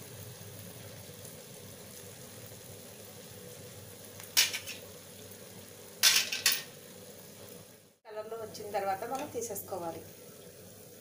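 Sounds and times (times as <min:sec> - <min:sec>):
fritter sizzling in hot oil: 0:00.0 - 0:11.0.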